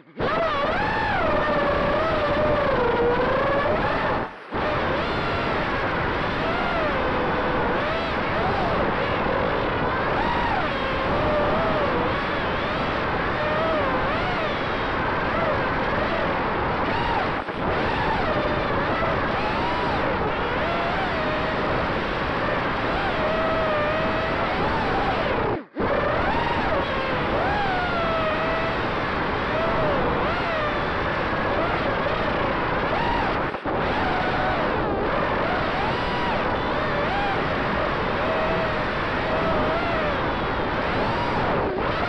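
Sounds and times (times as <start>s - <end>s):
drone motors whining: 0.0s - 42.0s.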